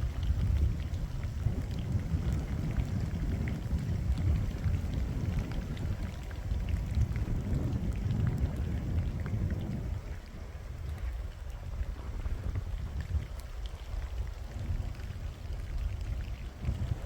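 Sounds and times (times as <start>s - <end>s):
wind gusting over microphone: 0.0s - 17.0s.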